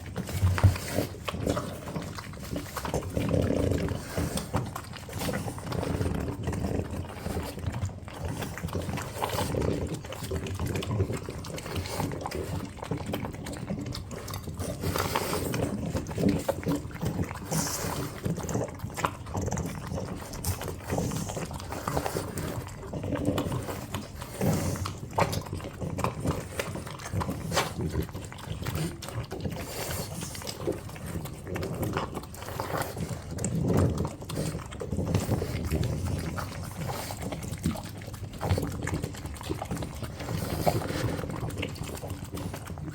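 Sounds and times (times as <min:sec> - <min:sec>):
dogs breathing noisily: 0:00.0 - 0:42.9
dogs chewing and licking: 0:00.0 - 0:42.9.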